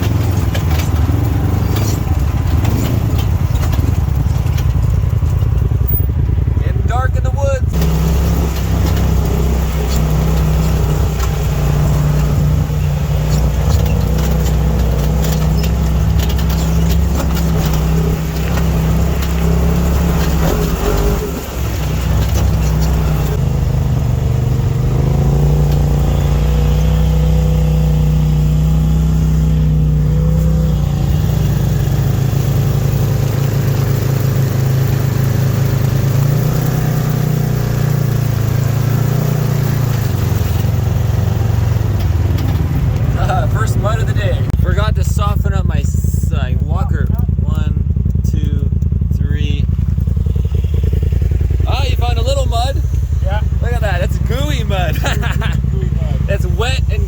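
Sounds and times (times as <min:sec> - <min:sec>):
utility vehicle engine running: 0:00.0 - 0:57.0.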